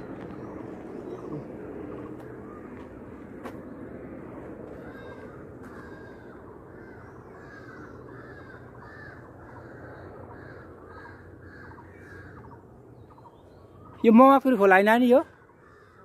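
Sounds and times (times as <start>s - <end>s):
bird calling: 0.0s - 2.9s, 4.7s - 16.0s.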